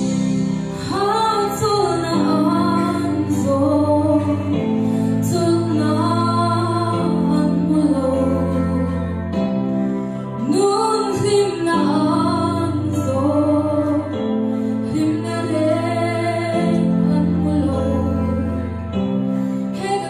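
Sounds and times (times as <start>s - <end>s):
sustained keyboard chords: 0.0s - 20.0s.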